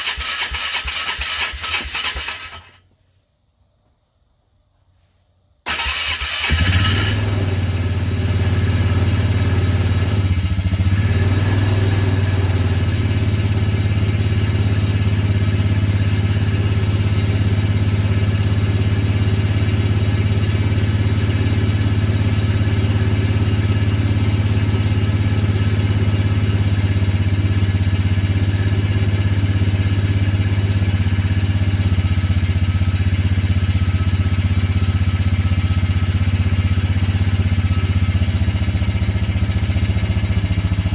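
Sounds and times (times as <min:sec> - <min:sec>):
vehicle engine starting and idling: 0:00.0 - 0:02.8, 0:05.6 - 0:40.9.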